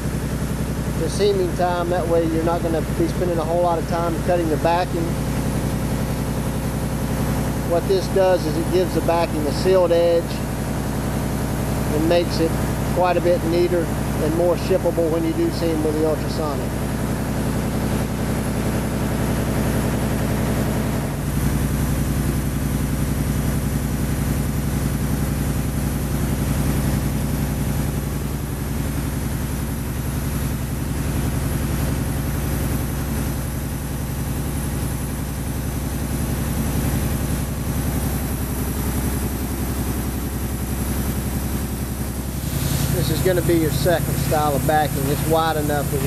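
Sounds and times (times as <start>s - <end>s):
mill machinery humming: 0.0s - 46.0s.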